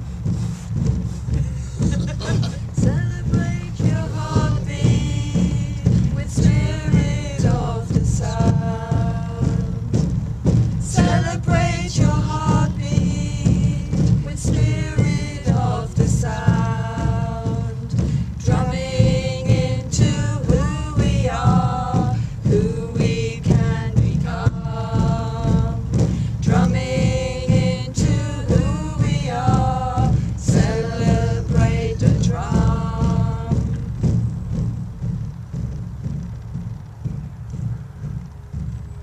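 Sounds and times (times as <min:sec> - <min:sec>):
group singing over drumbeat: 0:01.8 - 0:38.7.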